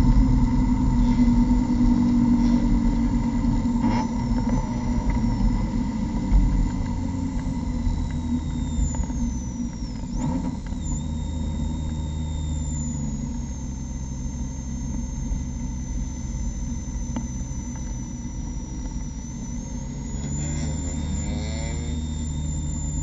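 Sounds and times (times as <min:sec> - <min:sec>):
car engine droning at low revs: 0:00.0 - 0:23.0
faint high whine: 0:00.0 - 0:23.0.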